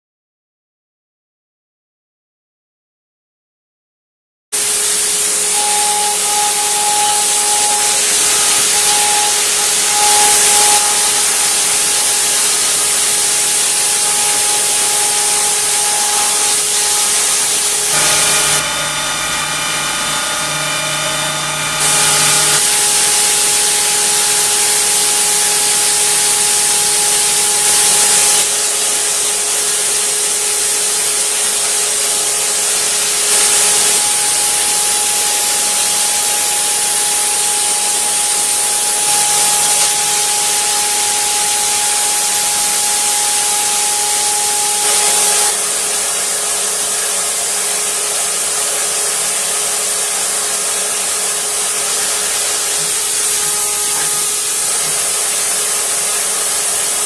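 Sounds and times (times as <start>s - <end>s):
cnc router spindle whine: 4.6s - 57.0s.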